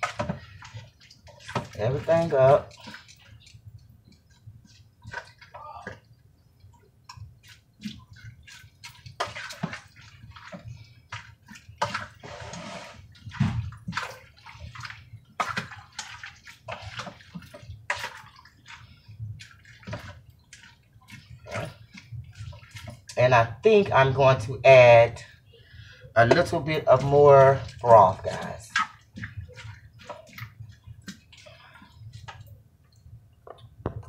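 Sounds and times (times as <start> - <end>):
liquid sloshing in a pot: 0.0 - 34.0.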